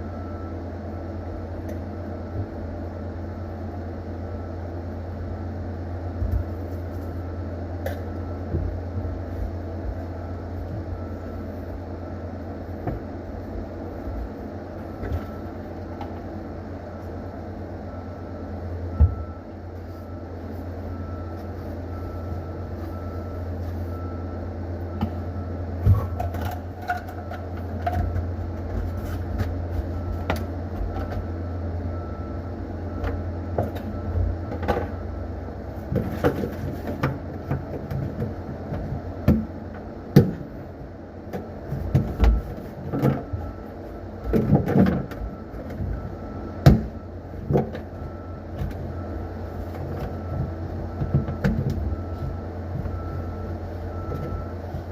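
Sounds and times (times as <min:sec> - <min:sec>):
low hum: 0:00.0 - 0:54.9.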